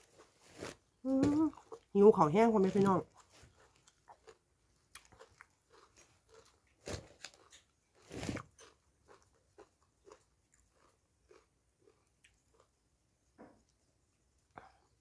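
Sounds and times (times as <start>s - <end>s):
wet chewing and crunching: 0.0s - 12.8s.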